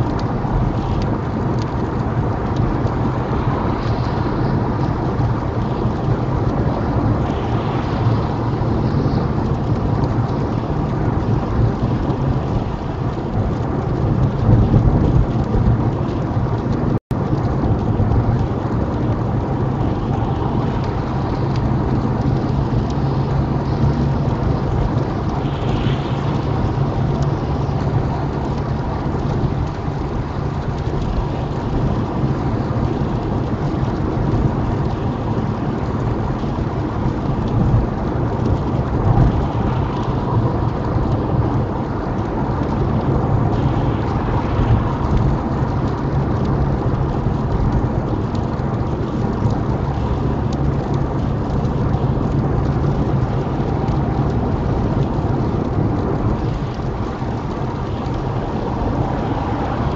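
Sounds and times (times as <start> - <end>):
rain hitting windscreen: 0.0 - 59.9
tyre and road noise: 0.0 - 59.9.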